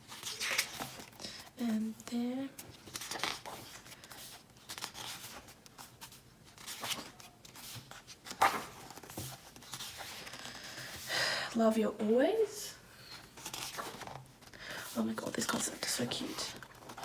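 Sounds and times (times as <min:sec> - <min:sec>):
paper and card rustling: 0:00.0 - 0:11.1, 0:13.2 - 0:17.0.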